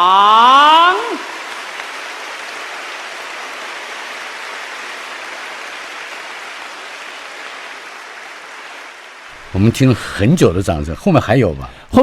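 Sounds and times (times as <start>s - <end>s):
audience applause: 0.0s - 10.6s.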